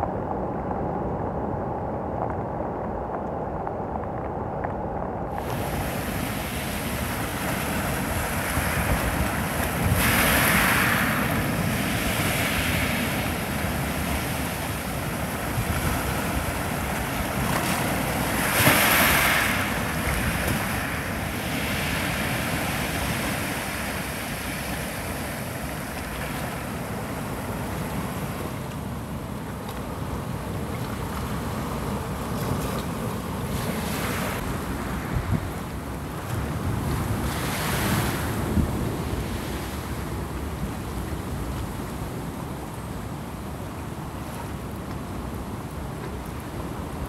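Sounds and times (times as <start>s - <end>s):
heavy surf breaking over rocks: 2.2s - 47.0s.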